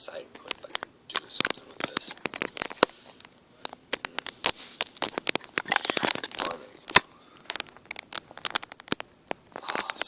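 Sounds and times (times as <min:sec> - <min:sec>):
rustling: 0:00.3 - 0:10.0
fingers tapping on tablet: 0:00.4 - 0:10.0.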